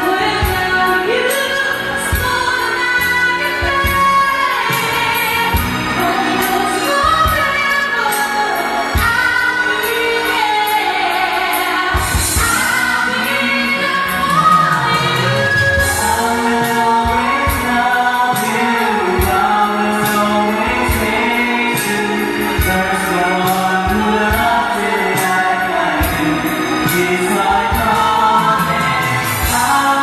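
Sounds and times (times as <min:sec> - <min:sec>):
drum hits and cymbals: 0:00.0 - 0:30.0
person singing pop ballad: 0:00.0 - 0:30.0.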